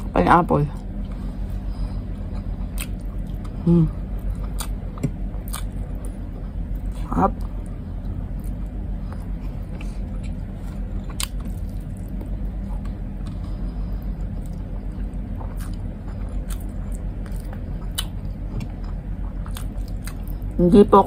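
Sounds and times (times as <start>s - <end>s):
low background rumble: 0.0s - 21.0s
person chewing food: 0.8s - 20.6s.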